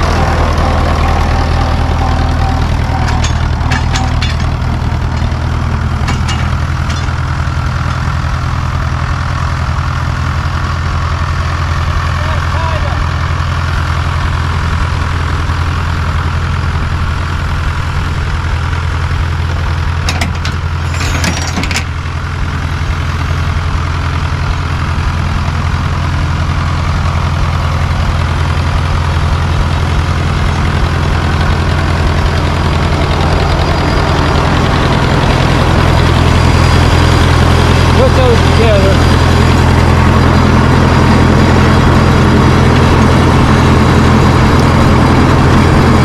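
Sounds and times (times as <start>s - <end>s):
tractor engine idling: 0.0s - 46.0s.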